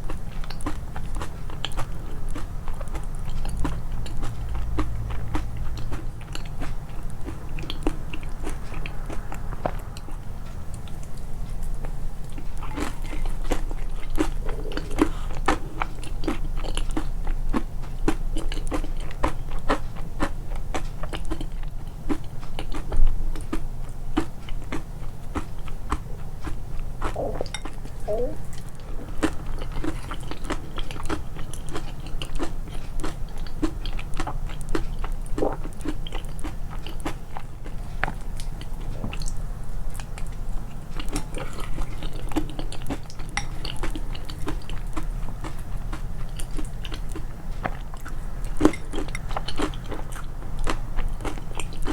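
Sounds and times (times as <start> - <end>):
chewing crunchy food: 0.0 - 51.9.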